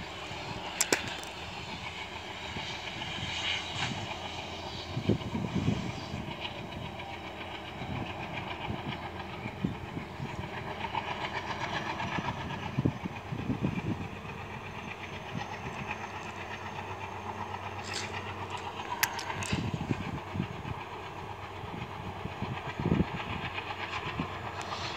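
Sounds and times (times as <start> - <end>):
train rumbling on track: 0.0 - 24.9.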